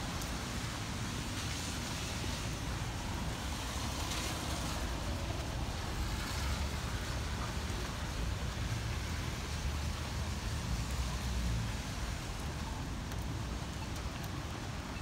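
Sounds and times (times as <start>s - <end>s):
wind and rain: 0.0s - 15.0s.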